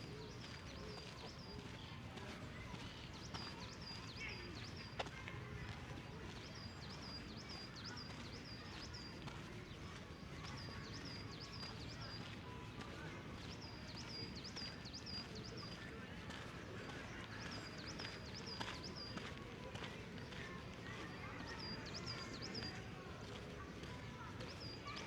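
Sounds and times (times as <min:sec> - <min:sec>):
outdoor murmur: 0:00.0 - 0:25.0.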